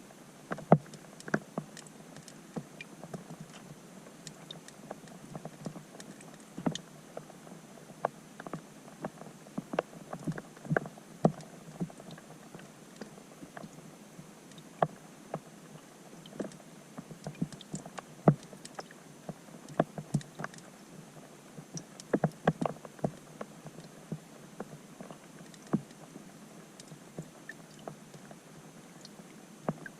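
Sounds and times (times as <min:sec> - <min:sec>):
faint steady hiss: 0:00.0 - 0:29.9
rain drops plinking on water: 0:00.5 - 0:21.0, 0:21.6 - 0:29.9.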